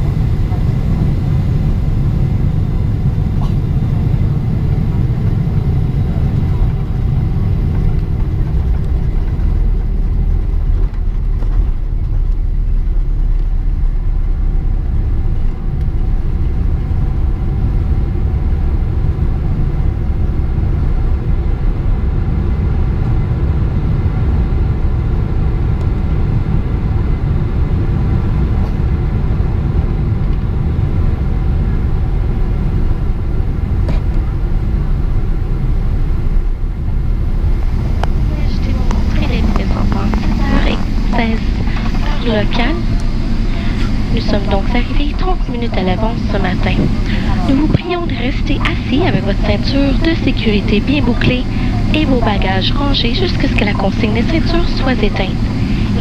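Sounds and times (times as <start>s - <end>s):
aircraft cabin engine rumble: 0.0s - 56.0s
faint steady tonal hum: 0.0s - 56.0s.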